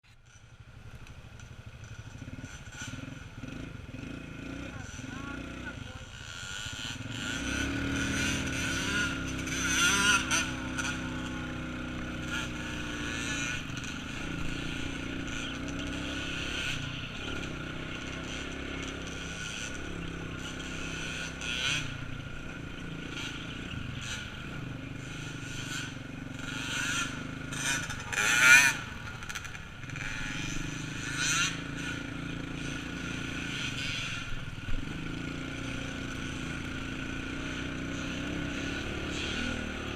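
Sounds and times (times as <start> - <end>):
small off-road engine running: 0.0 - 39.9.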